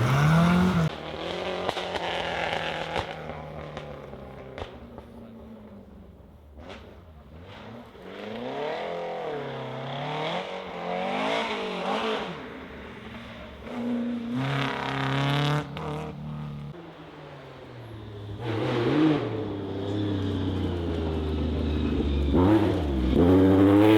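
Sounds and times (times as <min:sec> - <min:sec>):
rally car engine revving: 0:00.0 - 0:05.9, 0:06.5 - 0:16.8, 0:18.2 - 0:23.9.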